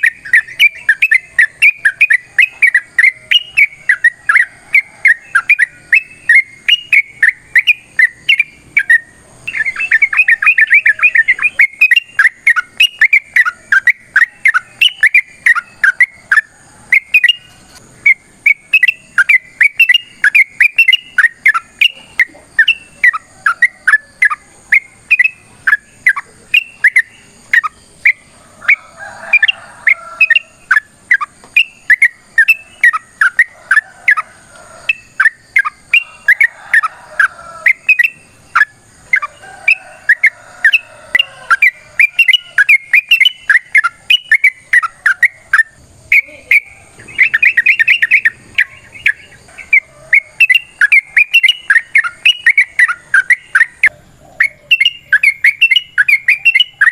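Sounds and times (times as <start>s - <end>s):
bird singing chattering notes: 0.0s - 56.9s.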